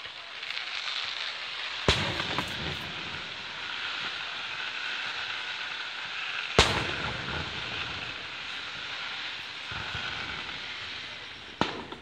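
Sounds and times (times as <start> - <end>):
background hiss: 0.0 - 12.0
firework bursting with bang: 0.0 - 12.0.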